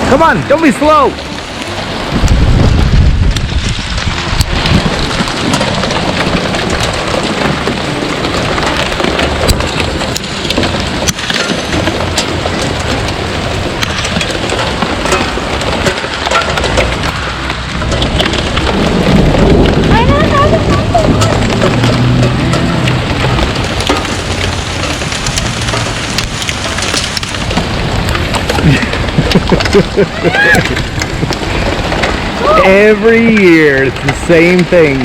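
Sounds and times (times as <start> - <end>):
hailstones ticking: 0.0 - 35.0
heavy rain hissing: 0.0 - 35.0
wind buffeting microphone: 0.0 - 35.0.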